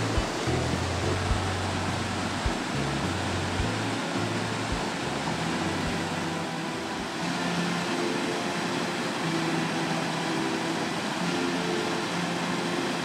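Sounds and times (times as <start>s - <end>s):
river water rushing over weir: 0.0s - 13.0s
soft background music: 0.0s - 13.0s.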